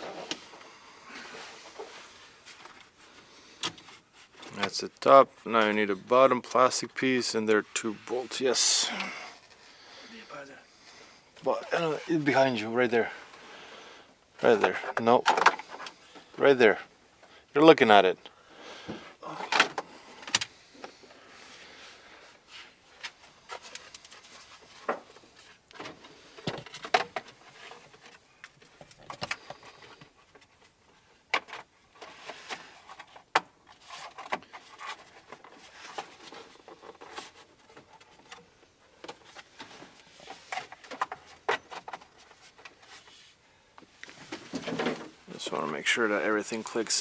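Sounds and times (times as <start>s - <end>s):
rubbing and shuffling: 0.0s - 17.0s, 19.8s - 47.0s.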